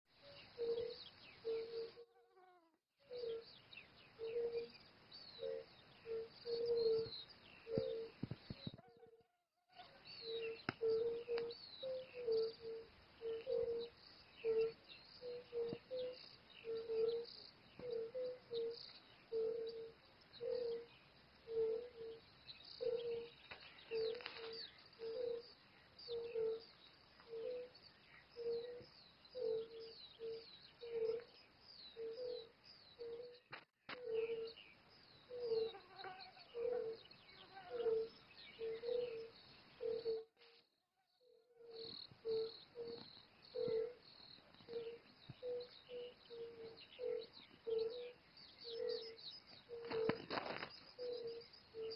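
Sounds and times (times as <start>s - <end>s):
small birds twittering: 0.1s - 2.0s, 3.0s - 51.9s.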